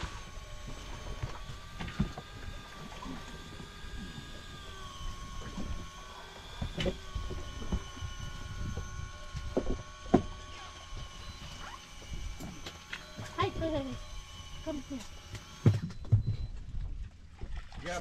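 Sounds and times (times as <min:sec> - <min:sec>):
wind and water rumble: 0:00.0 - 0:12.7, 0:15.8 - 0:18.0
high motor whine: 0:00.0 - 0:17.1.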